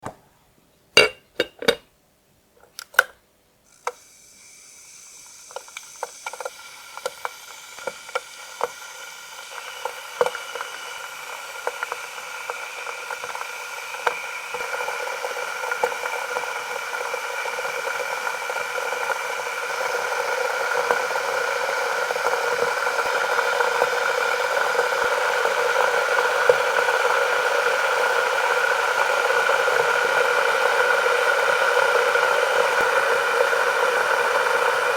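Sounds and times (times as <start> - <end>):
kettle water heating hiss: 2.8 - 34.9.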